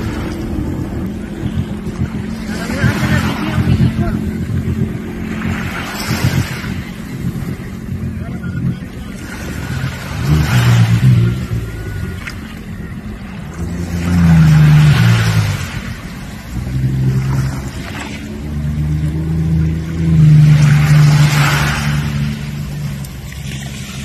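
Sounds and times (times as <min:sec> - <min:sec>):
jet ski engine surging: 0:00.0 - 0:24.0.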